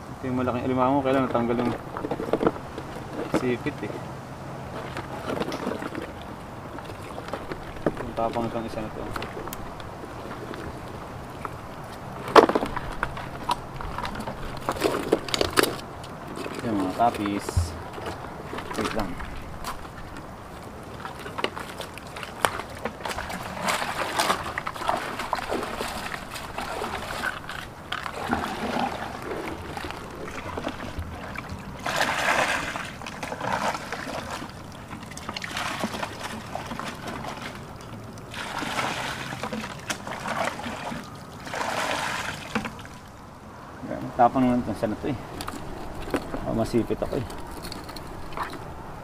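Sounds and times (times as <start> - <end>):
water splashing and sloshing: 0.0 - 49.0.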